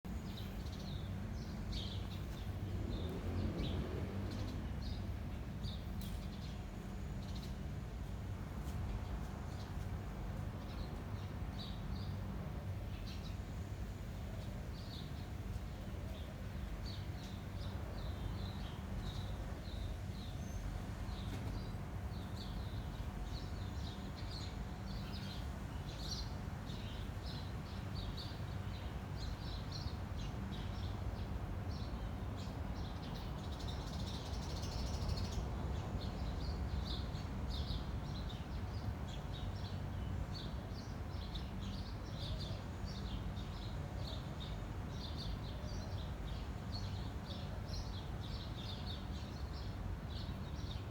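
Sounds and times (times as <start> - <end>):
low rumble of wind: 0.0 - 50.9
small birds chirping: 0.1 - 8.2, 8.9 - 50.9.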